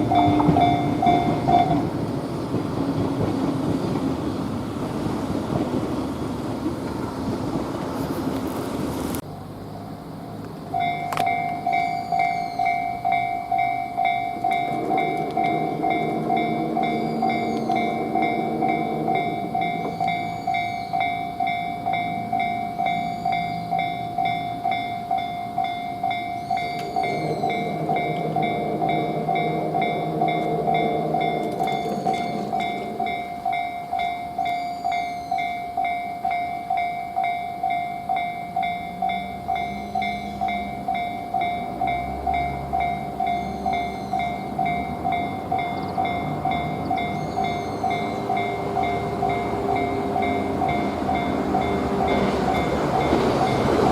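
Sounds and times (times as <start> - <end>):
level crossing warning bell: 0.0 - 3.3, 10.0 - 53.9.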